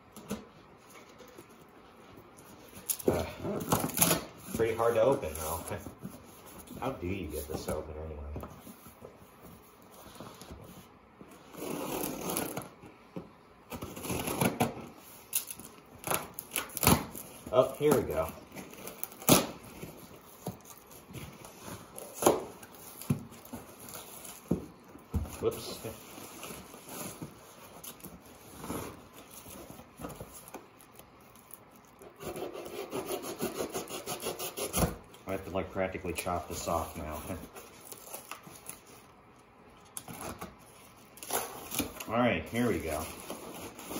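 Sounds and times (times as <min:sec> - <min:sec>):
cardboard rustling: 0:00.2 - 0:32.6, 0:39.8 - 0:43.9.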